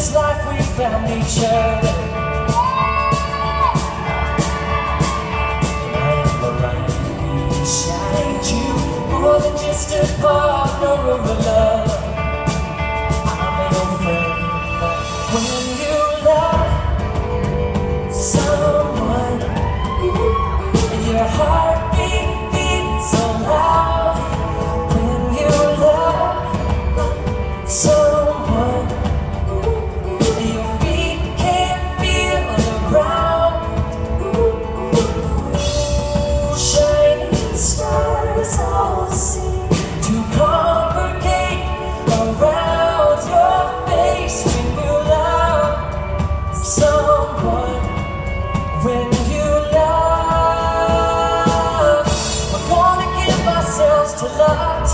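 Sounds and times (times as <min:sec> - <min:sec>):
live pop band playing: 0:00.0 - 0:54.9
person singing: 0:00.0 - 0:54.9.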